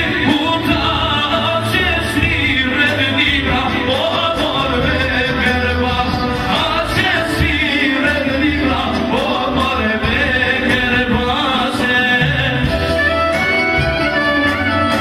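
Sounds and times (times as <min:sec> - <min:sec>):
man singing folk song: 0:00.0 - 0:13.0
musical accompaniment: 0:00.0 - 0:15.0.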